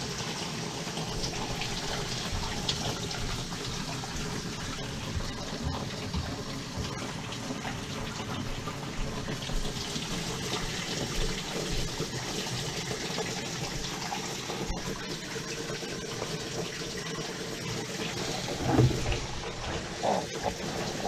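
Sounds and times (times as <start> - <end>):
water rushing down a drain: 0.0 - 21.0.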